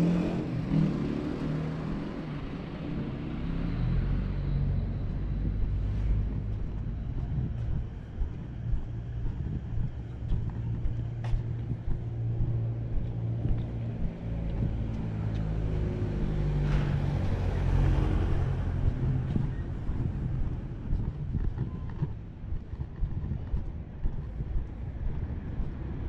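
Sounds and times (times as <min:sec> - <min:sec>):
vehicle engines running: 0:00.0 - 0:26.0.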